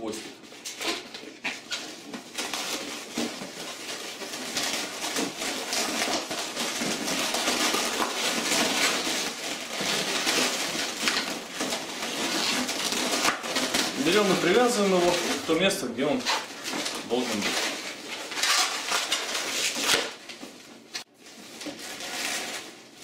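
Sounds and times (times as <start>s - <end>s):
balloons squeaking and rubbing: 0.4s - 20.3s, 21.0s - 23.0s.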